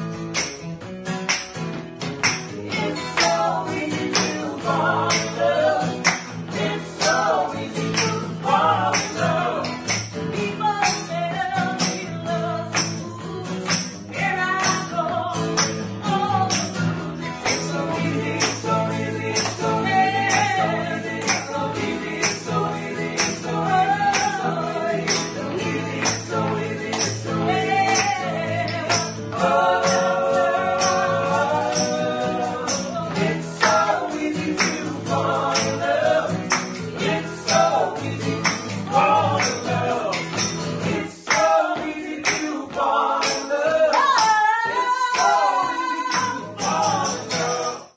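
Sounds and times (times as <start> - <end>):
acoustic guitars: 0.0 - 47.9
hand claps: 0.0 - 47.9
shaker percussion: 0.0 - 47.9
voices singing together: 2.2 - 47.9.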